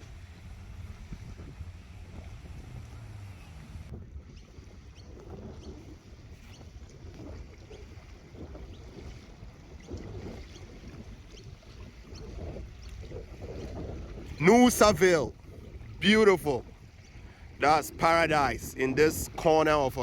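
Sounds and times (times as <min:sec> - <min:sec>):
water lapping: 0:00.0 - 0:20.0
wind rumbling on microphone: 0:00.0 - 0:20.0.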